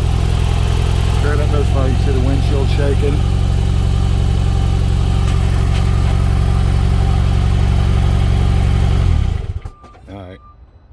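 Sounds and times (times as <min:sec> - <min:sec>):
misfiring car engine running: 0:00.0 - 0:10.1.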